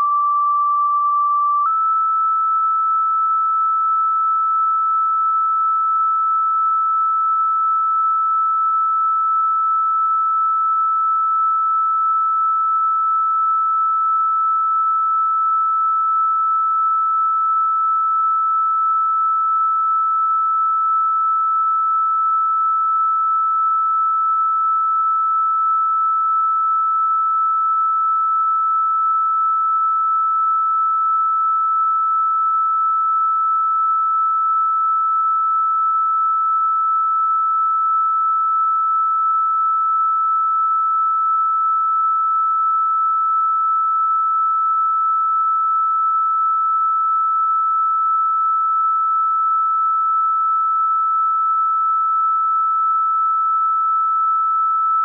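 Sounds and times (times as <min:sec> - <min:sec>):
high sine tone: 0:00.0 - 0:55.0.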